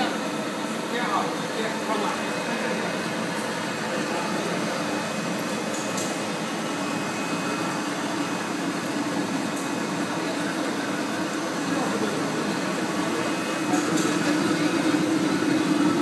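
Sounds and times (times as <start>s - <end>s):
machine hum and whir: 0.0s - 16.0s.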